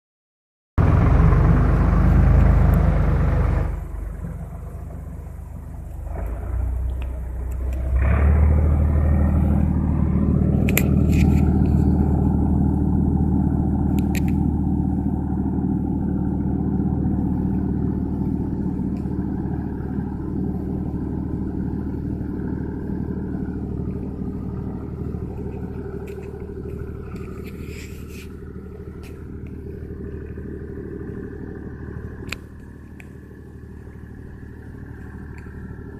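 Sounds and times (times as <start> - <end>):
tractor engine running: 0.8 - 35.9.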